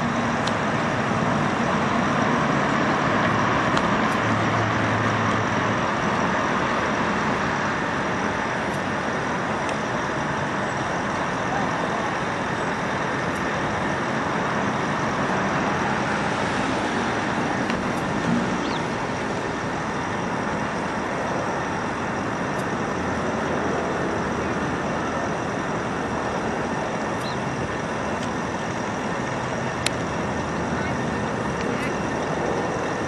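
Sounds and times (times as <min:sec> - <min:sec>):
distant jet engine roar: 0:00.0 - 0:33.0
faint high whine: 0:00.0 - 0:33.0.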